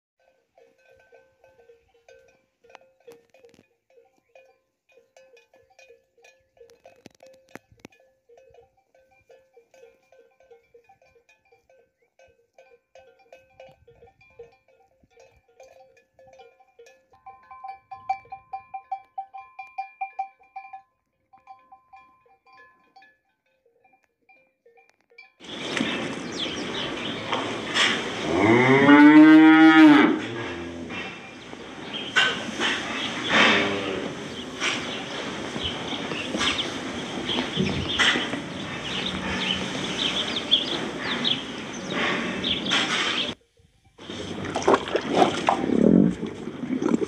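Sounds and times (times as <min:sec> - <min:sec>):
cattle bells clanking: 0:00.2 - 0:44.8.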